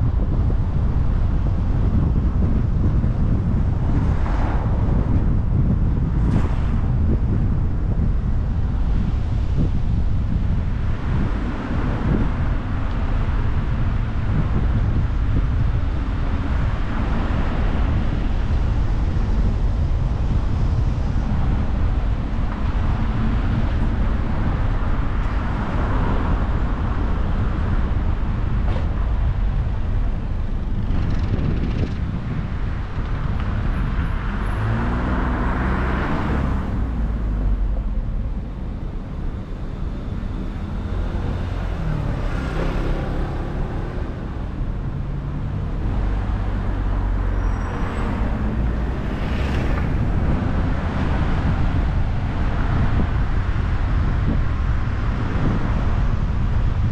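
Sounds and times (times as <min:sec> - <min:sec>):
car driving rumble: 0:00.0 - 0:56.9.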